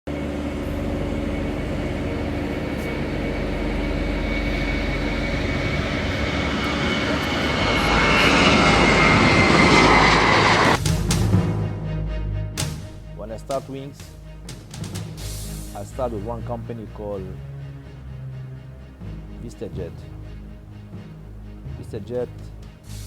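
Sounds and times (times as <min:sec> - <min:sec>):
aircraft engines whining: 0:00.1 - 0:23.0.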